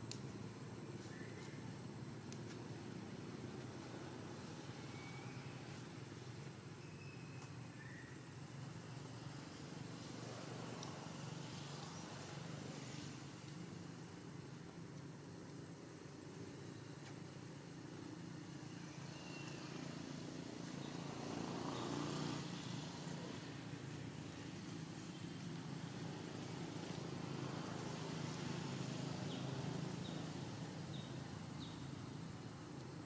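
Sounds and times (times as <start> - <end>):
motor traffic rumble: 0.0 - 33.0.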